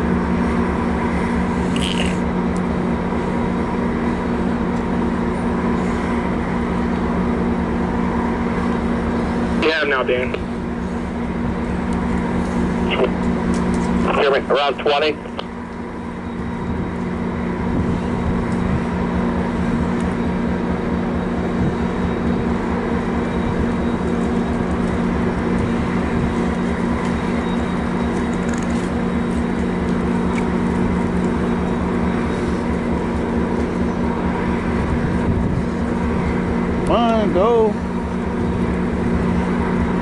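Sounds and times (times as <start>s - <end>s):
train idling hum: 0.0s - 40.0s.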